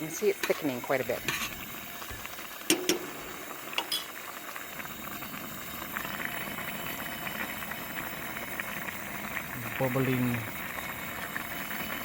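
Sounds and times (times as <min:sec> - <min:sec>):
thick food bubbling in a pot: 0:00.0 - 0:12.0.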